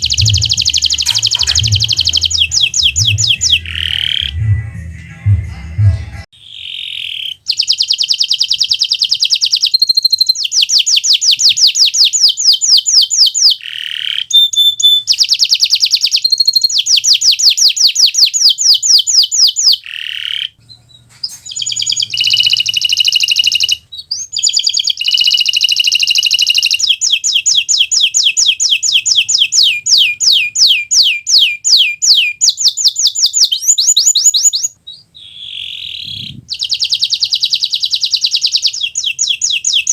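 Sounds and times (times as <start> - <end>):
canary singing trills: 0.0 - 5.3, 6.4 - 39.9.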